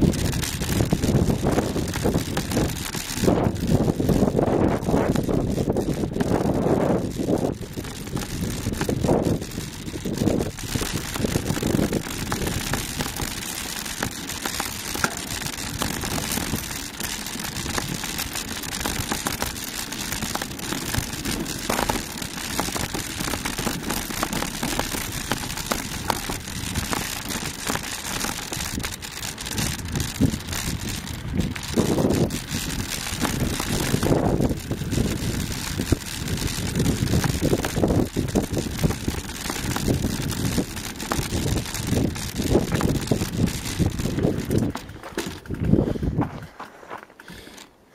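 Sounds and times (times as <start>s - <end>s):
wind buffeting the microphone: 0.0s - 19.5s, 20.2s - 46.6s
crackle and rattle on rocky trail: 0.0s - 47.9s.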